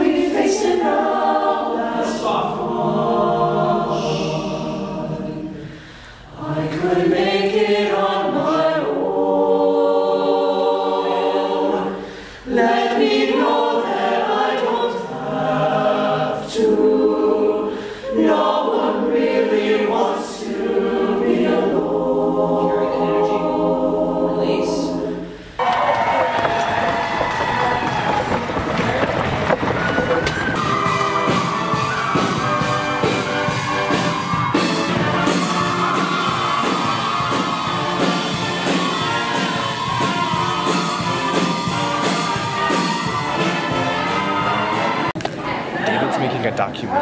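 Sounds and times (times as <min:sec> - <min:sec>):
choir singing in harmony: 0:00.0 - 0:25.7, 0:30.4 - 0:46.2.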